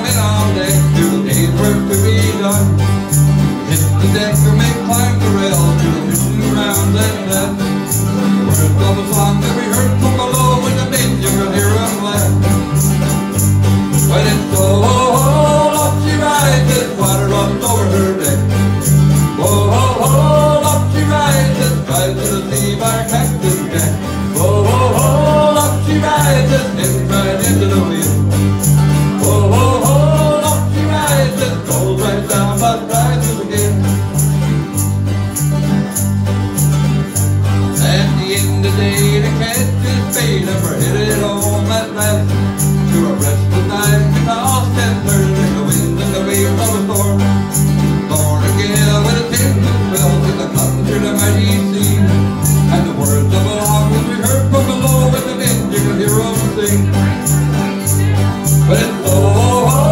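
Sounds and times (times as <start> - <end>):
electric bass line: 0.0 - 59.9
mandolin: 0.0 - 59.9
strummed acoustic guitars: 0.0 - 59.9.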